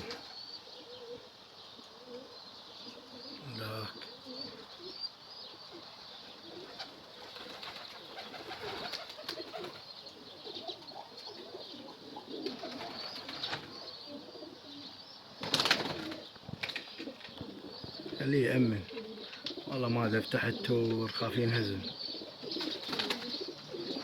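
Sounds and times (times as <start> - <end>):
bird chirps: 0.0 - 24.0
pigeons cooing: 0.0 - 24.0.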